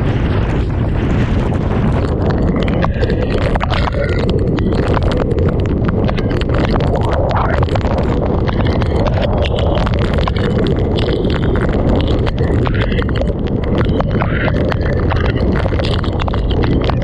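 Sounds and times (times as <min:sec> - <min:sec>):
sharp ticks and knocks: 0:00.0 - 0:17.0
strong wind buffeting microphone: 0:00.0 - 0:17.0.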